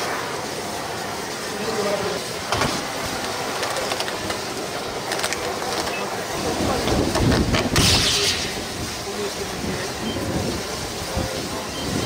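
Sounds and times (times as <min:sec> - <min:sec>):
fire crackling: 0:00.0 - 0:12.0
rush of flame: 0:00.0 - 0:12.0.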